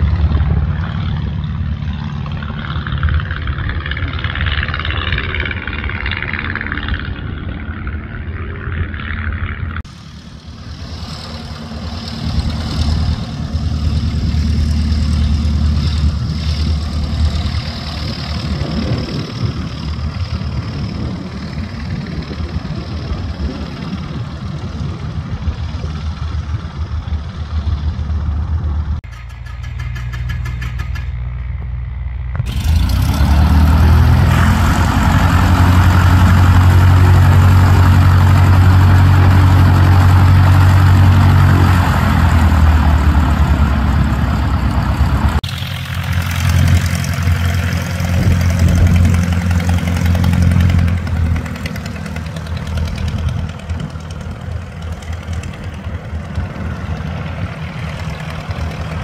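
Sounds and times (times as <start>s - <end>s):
light aircraft engine droning: 0.0s - 59.0s
plane engine idling: 0.0s - 59.0s.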